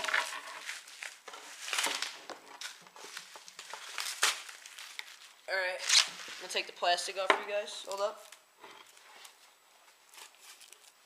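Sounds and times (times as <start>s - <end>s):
packaging crinkling and rustling: 0.0s - 6.7s, 7.9s - 11.0s.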